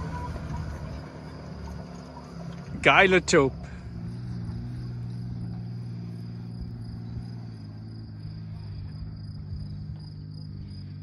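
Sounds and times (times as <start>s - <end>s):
car engine driving away: 0.0s - 11.0s
high insect trill: 0.0s - 11.0s.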